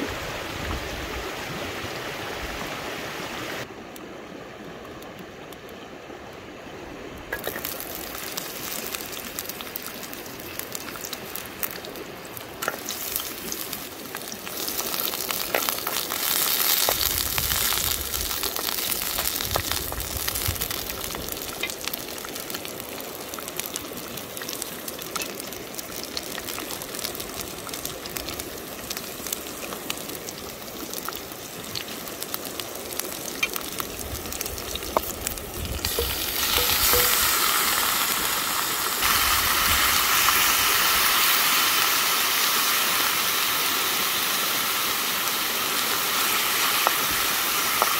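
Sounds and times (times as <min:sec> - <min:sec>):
food sizzling in hot oil: 0:07.3 - 0:47.9.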